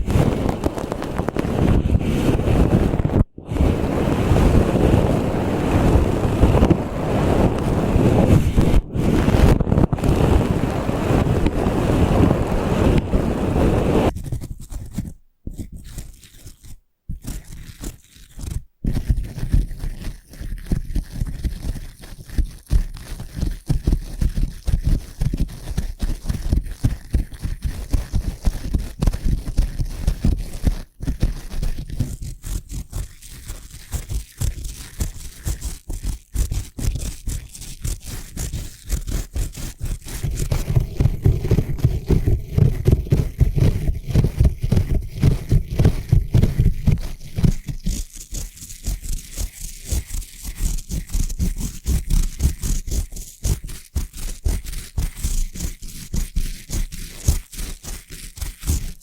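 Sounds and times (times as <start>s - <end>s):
bristle brush scratching microphone: 0.0s - 59.0s.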